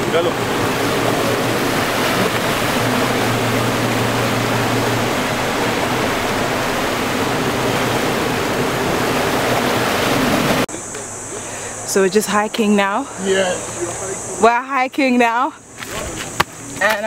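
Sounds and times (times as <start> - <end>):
white water rushing: 0.0 - 12.4, 13.0 - 14.6.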